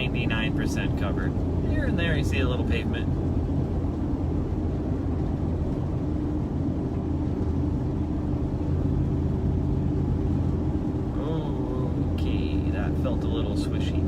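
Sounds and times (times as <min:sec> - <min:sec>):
vehicle engine and tyres droning: 0:00.0 - 0:14.0.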